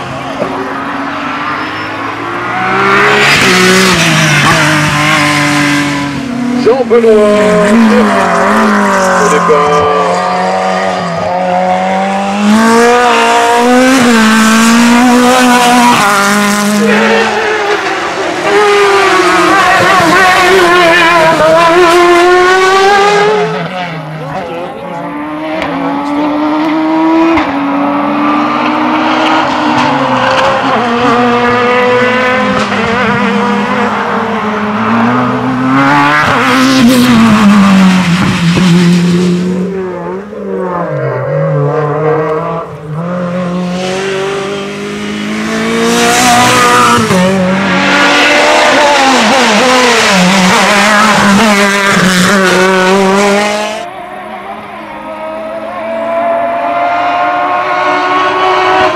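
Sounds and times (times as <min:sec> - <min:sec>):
racing car engines at full throttle: 0:00.0 - 0:58.9.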